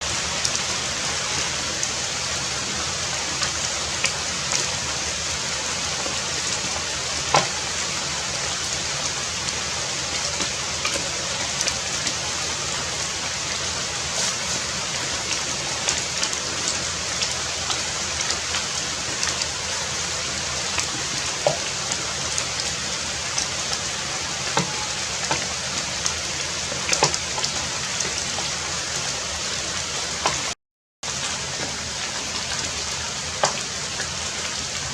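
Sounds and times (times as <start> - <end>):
heavy rain falling: 0.0 - 34.9
raindrops ticking: 0.0 - 34.9.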